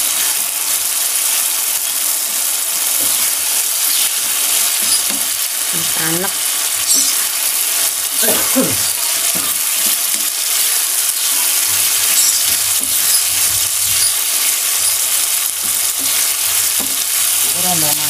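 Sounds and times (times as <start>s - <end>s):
chili paste sizzling in oil: 0.0s - 18.0s
metal spoon stirring in pan: 2.2s - 18.0s.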